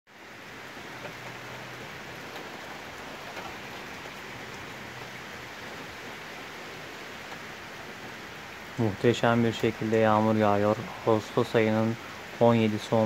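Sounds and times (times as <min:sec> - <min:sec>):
heavy rain falling: 0:00.1 - 0:13.0.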